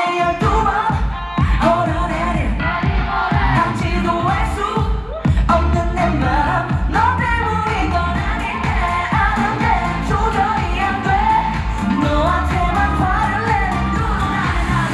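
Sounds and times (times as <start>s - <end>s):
person singing: 0.0s - 14.9s
pop backing track with bass beat: 0.0s - 14.9s.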